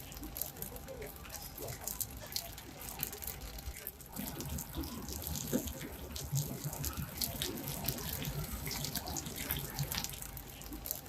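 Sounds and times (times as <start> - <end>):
omelette sizzling in hot oil: 0.0 - 11.0.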